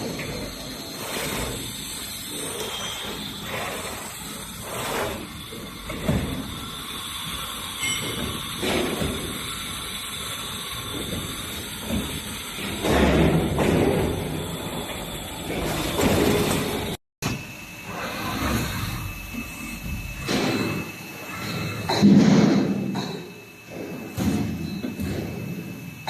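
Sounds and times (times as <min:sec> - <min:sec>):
folding machine mechanical hiss: 0:00.0 - 0:26.0.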